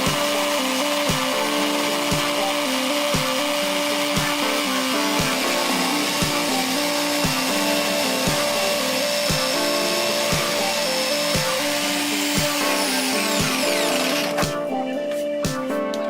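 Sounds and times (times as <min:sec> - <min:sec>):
electric power tool running: 0:00.0 - 0:14.6
background music with steady beat: 0:00.0 - 0:16.0.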